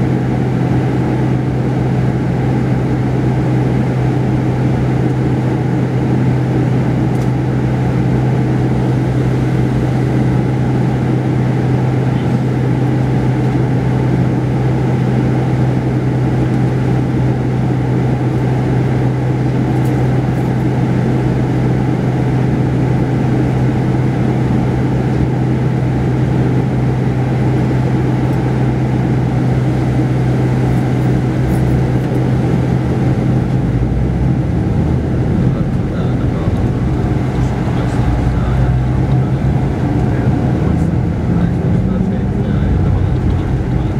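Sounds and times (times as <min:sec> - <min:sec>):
bus diesel engine droning: 0:00.0 - 0:43.9.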